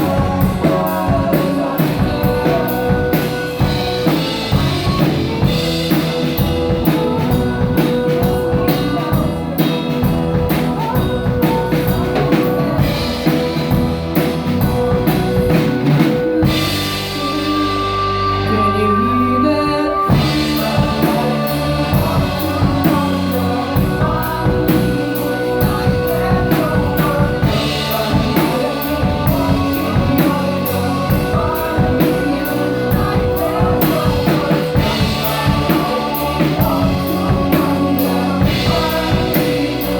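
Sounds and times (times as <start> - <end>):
drum-kit beat: 0.0 - 18.5, 20.1 - 39.9
band playing a song: 0.0 - 39.9
person singing: 0.0 - 39.9.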